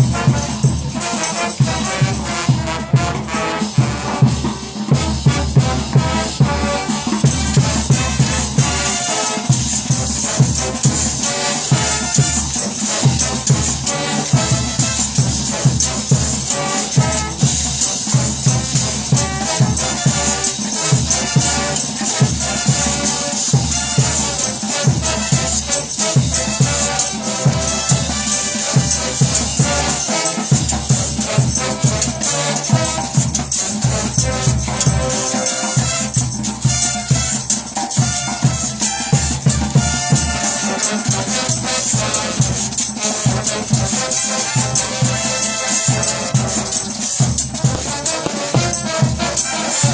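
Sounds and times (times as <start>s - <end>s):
cumbia band music: 0.0s - 49.9s
shaker rhythm: 0.0s - 49.9s.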